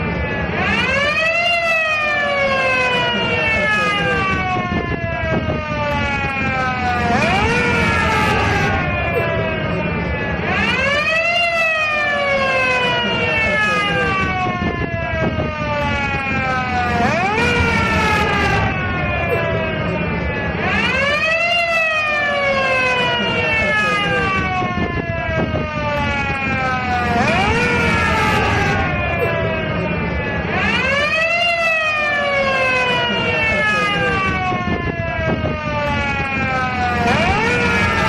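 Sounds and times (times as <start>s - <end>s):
ambulance siren wailing: 0.0s - 38.0s.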